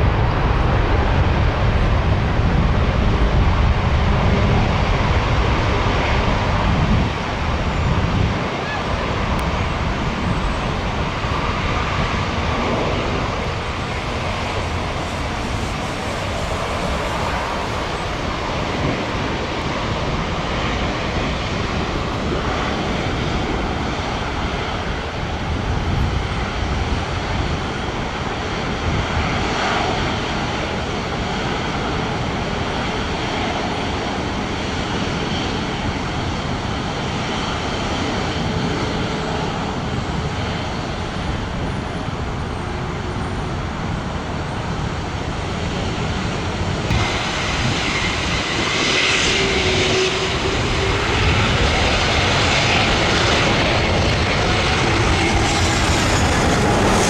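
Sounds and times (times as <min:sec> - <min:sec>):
jet aircraft engines: 0:00.0 - 0:57.0
road traffic roar: 0:00.0 - 0:57.0.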